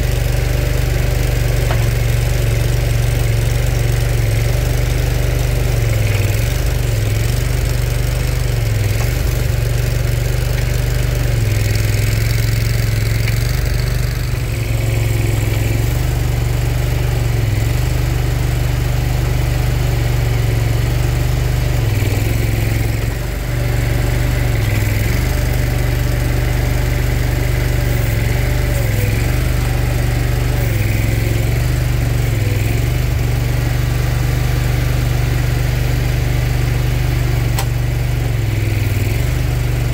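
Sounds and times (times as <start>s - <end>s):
loud engine running steadily: 0.0s - 39.9s.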